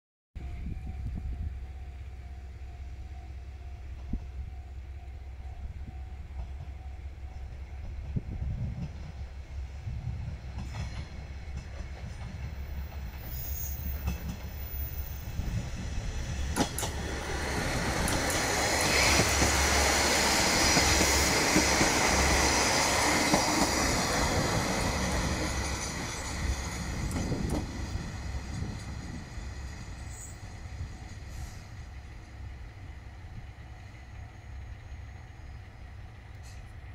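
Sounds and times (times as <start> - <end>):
diesel railcar engine and wheels: 0.4 - 36.9.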